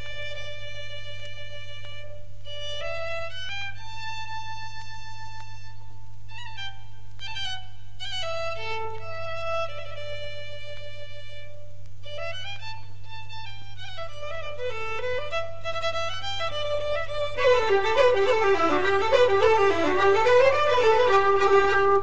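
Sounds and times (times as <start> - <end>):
solo violin melody: 0.0 - 22.0.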